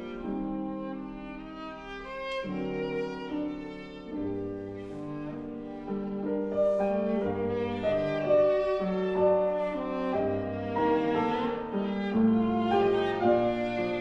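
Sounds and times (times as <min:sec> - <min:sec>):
piano accompaniment: 0:00.0 - 0:14.0
viola playing long notes: 0:00.0 - 0:14.0.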